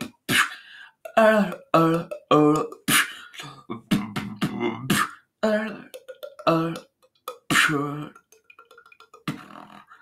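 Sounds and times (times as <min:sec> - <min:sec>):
person beatboxing: 0:00.0 - 0:10.0.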